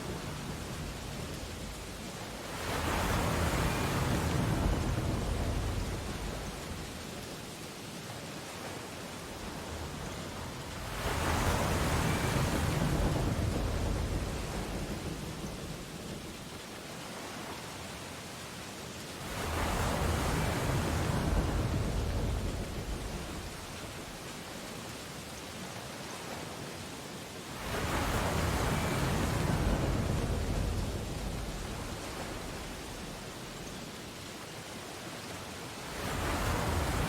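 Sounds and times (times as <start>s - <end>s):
ocean waves crashing: 0.0s - 37.0s
surf washing: 0.0s - 37.0s.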